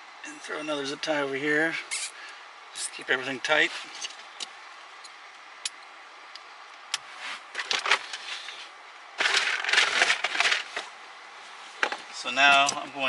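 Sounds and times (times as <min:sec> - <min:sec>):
rustling of wiring: 0:01.9 - 0:13.0.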